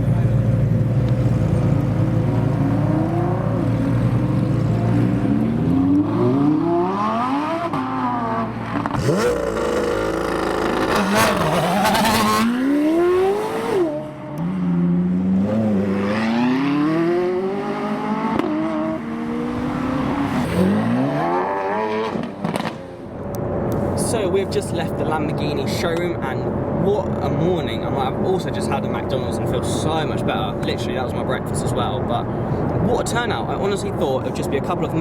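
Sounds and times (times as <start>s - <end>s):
car engines revving hard: 0.0s - 35.0s.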